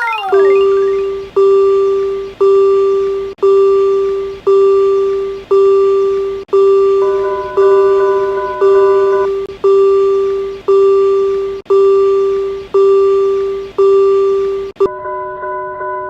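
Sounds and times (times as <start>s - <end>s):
level-crossing alarm bell dinging: 0.0s - 16.0s.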